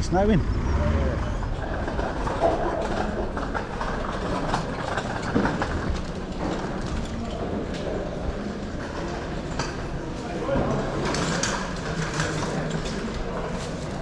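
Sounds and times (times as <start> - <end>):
background hubbub: 0.0 - 14.0.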